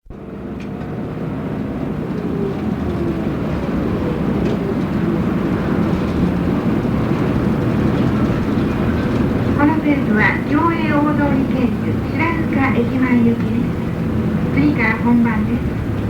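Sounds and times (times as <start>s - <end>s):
bus diesel engine pulling away: 0.0s - 16.0s.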